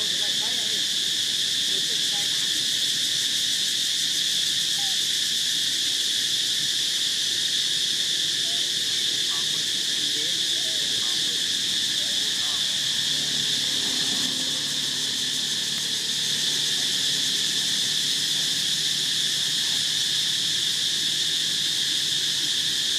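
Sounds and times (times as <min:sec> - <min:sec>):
high-pitched insect drone: 0:00.0 - 0:22.9.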